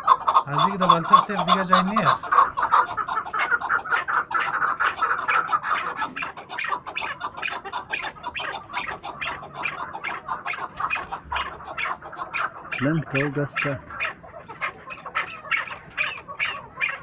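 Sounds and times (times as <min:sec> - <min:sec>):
partridges clucking: 0:00.0 - 0:17.0.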